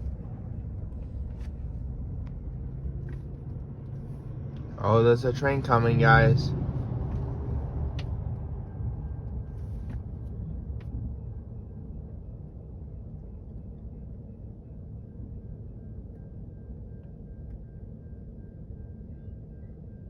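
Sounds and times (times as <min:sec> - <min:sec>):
vehicle rumble from inside cab: 0:00.0 - 0:18.0.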